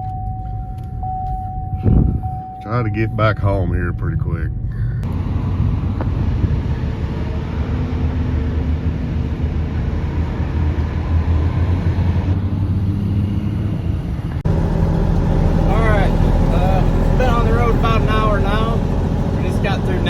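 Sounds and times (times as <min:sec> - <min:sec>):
road noise: 0:00.0 - 0:20.0
truck engine droning: 0:00.0 - 0:20.0.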